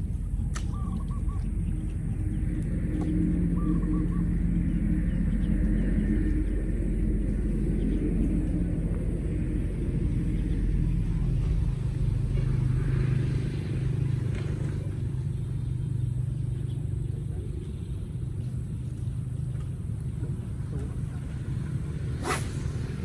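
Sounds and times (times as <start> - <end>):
engine running with low hum: 0.0 - 23.0.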